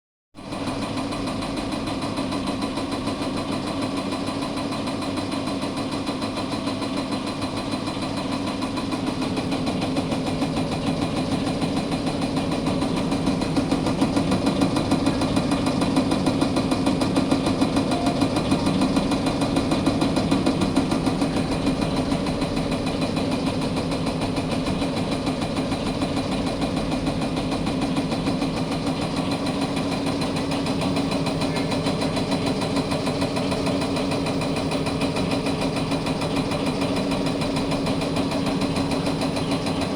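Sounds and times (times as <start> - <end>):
diesel engine clattering: 0.5 - 39.9.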